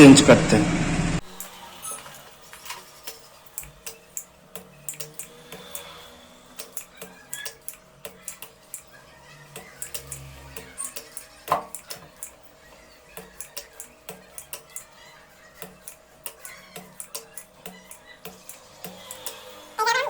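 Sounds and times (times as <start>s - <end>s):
tools clicking and tapping on circuit board: 1.2s - 19.7s.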